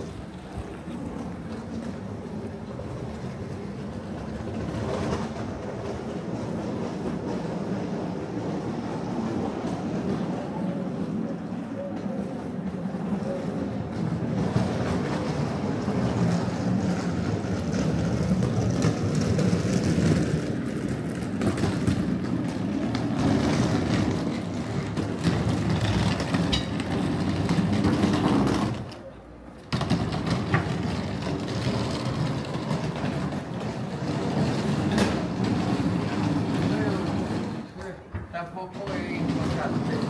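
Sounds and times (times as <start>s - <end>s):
street ambience low rumble: 0.0s - 40.0s.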